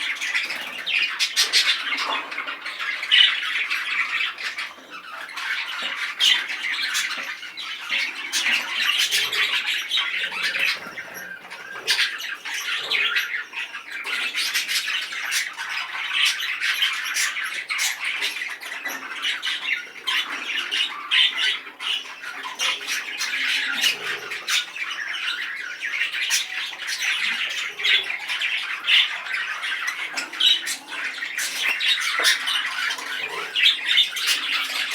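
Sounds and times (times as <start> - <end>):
budgerigar chattering and squawking: 0.0 - 34.9.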